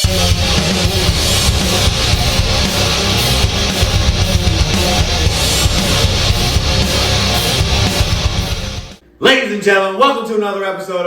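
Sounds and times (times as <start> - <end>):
electric guitar rock music: 0.0 - 9.0.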